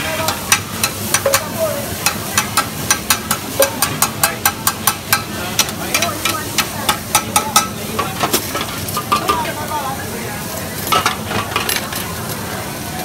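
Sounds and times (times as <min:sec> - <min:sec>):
hot oil sizzling: 0:00.0 - 0:13.0
metal spatulas clanking on wok: 0:00.1 - 0:09.6, 0:10.8 - 0:12.2.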